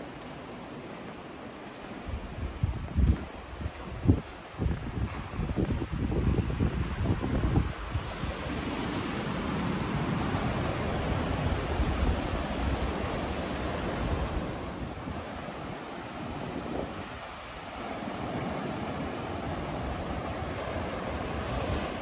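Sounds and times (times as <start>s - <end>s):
surf washing over rocks: 0.0s - 22.0s
wind rumbling on microphone: 1.6s - 22.0s.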